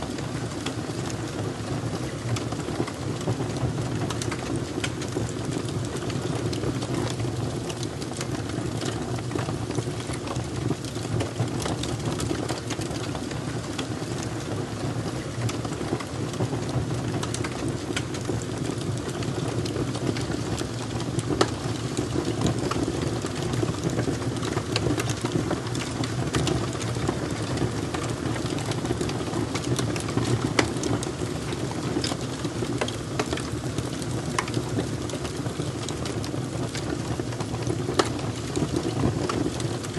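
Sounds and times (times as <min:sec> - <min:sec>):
wood fire popping and snapping: 0:00.0 - 0:39.9.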